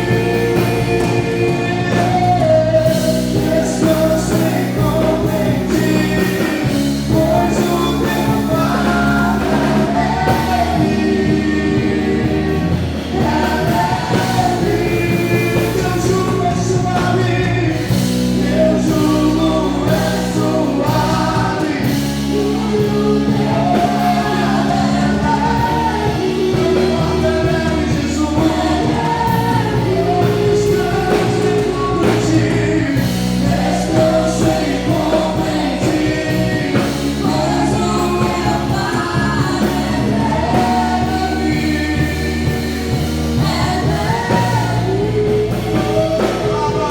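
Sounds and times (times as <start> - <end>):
band playing worship music: 0.0 - 46.9
voices singing: 0.0 - 46.9.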